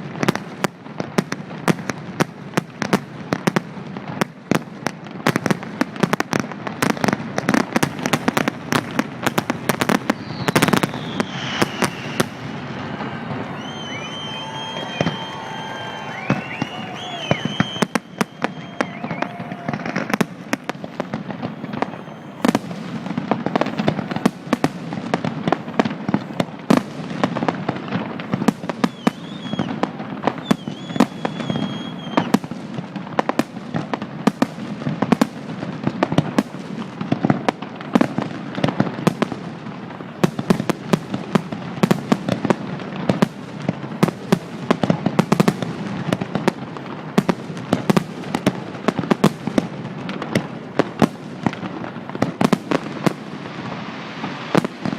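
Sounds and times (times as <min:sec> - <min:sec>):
fireworks bangs and crackles: 0:00.0 - 0:54.9
fireworks whistling: 0:05.4 - 0:54.9.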